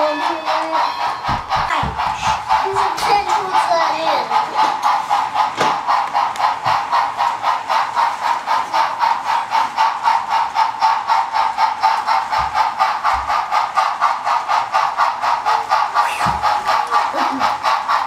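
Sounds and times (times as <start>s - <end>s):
model steam locomotive chuffing: 0.0s - 18.0s.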